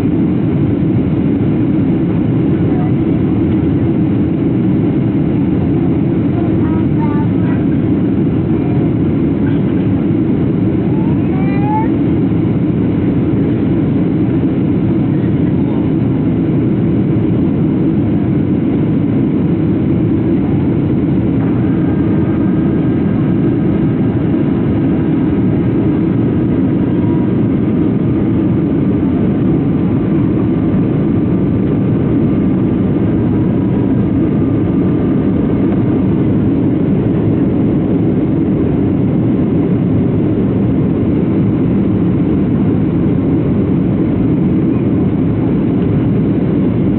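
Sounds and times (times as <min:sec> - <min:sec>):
airplane cabin roar: 0:00.0 - 0:46.9.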